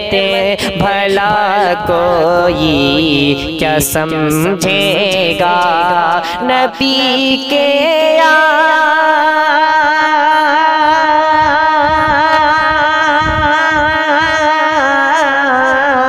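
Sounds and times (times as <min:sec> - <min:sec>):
man singing long wavering note: 0:00.0 - 0:16.0.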